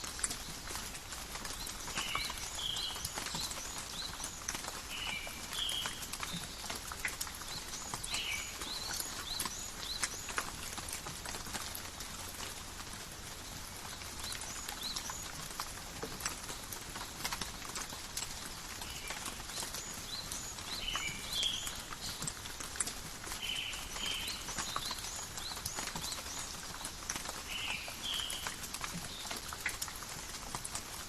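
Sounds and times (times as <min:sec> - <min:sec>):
rain patter: 0:00.0 - 0:31.0
water drips: 0:00.0 - 0:31.0.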